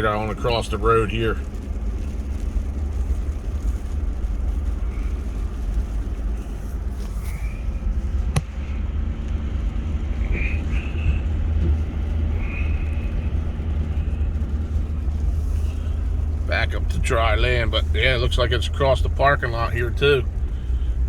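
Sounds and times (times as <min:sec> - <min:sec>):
car driving through water: 0:00.0 - 0:21.0.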